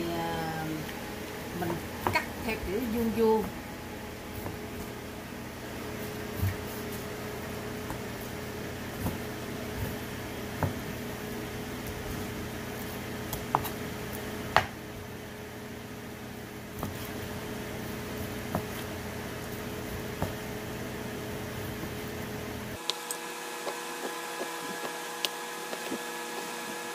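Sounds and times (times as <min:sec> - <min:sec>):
steady hum: 0:00.0 - 0:26.9.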